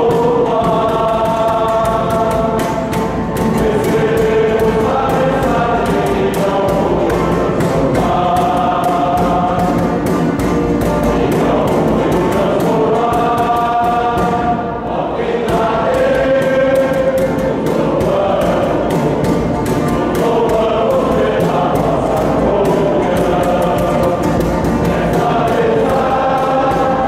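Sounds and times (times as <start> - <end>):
men's choir singing a hymn: 0.0 - 27.0.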